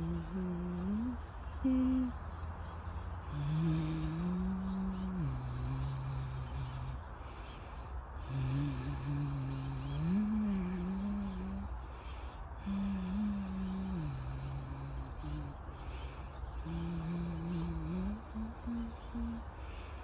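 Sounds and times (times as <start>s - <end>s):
person humming: 0.0s - 2.3s, 3.2s - 7.1s, 8.2s - 12.0s, 12.6s - 19.8s
small birds chirping: 0.0s - 20.0s.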